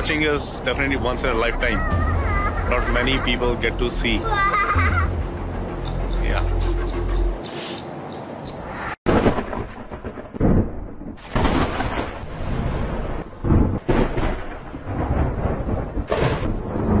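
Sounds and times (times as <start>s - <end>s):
thunder rumbling: 0.0s - 7.1s, 9.1s - 17.0s.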